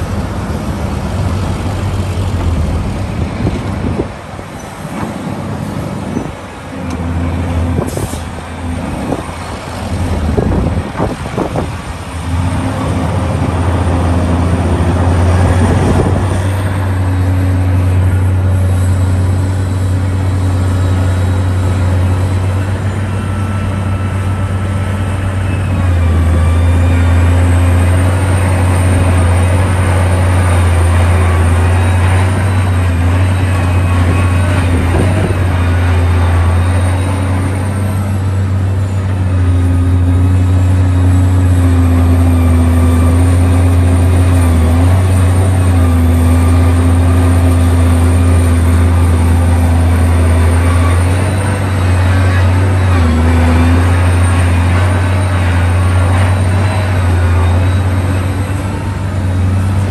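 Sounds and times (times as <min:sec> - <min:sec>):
excavator engine droning: 0:00.0 - 0:59.9.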